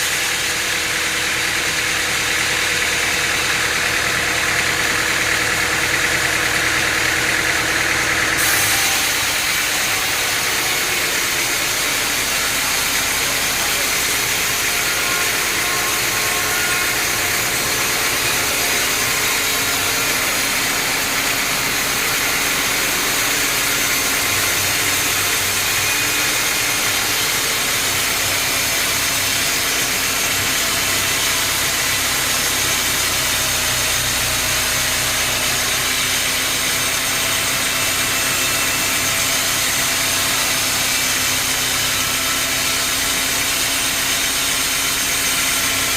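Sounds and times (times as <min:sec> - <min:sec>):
sawmill machinery hiss and hum: 0:00.0 - 0:45.9.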